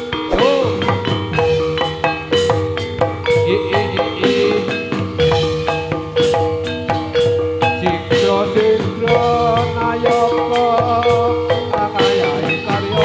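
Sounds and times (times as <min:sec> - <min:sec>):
drum strokes: 0:00.0 - 0:13.0
struck metal keyed instruments melody: 0:00.0 - 0:13.0.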